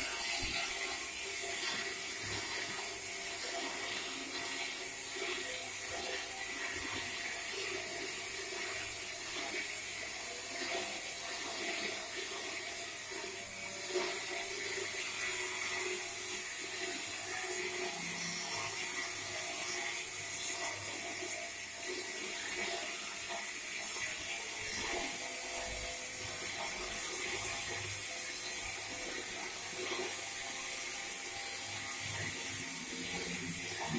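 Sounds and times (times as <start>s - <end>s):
plate rolling machine running: 0.0s - 33.9s.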